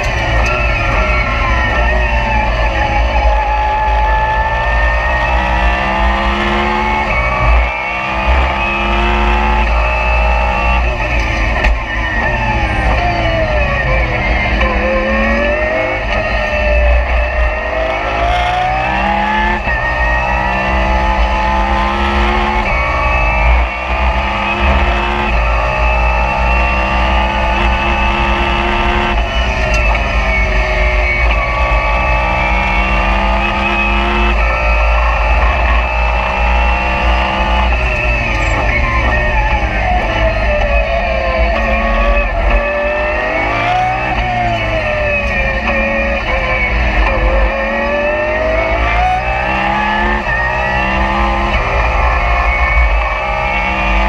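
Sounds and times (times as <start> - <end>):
race car engine shifting gears: 0.0 - 54.0.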